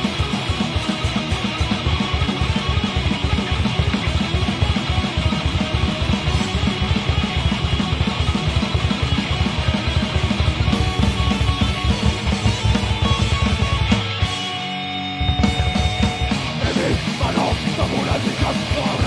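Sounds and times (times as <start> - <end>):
fast kick-drum beat: 0.0 - 14.2, 15.4 - 19.0
bass guitar: 0.0 - 19.0
drum kit: 0.0 - 19.0
electric guitar: 0.0 - 19.0.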